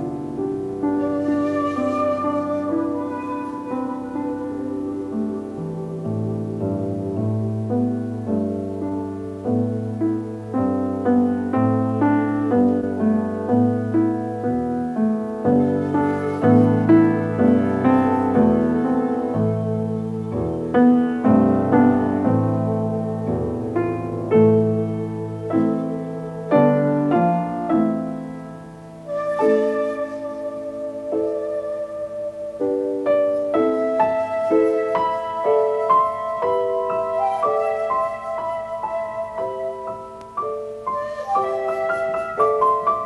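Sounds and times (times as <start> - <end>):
piano notes: 0.0 - 43.0.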